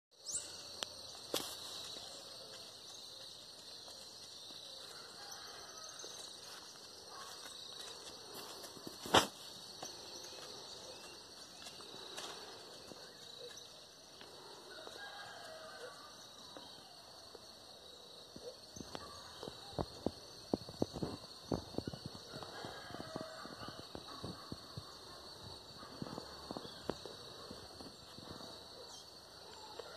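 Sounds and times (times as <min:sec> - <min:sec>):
insects chirring: 0:00.2 - 0:29.9.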